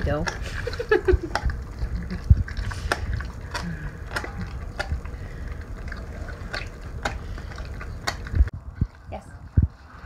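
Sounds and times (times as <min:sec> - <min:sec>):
dog licking and chewing meat: 0:00.0 - 0:09.9.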